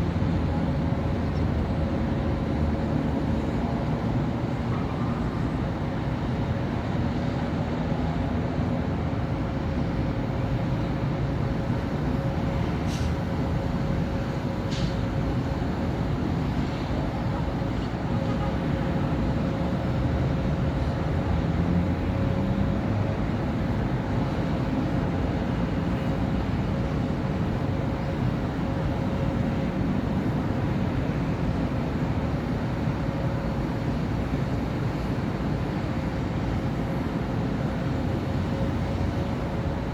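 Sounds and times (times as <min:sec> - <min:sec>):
cars and buses passing: 0:00.0 - 0:39.9.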